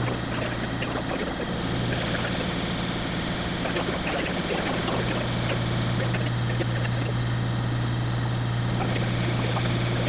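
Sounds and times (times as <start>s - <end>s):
milling machine hum: 0.0s - 10.0s.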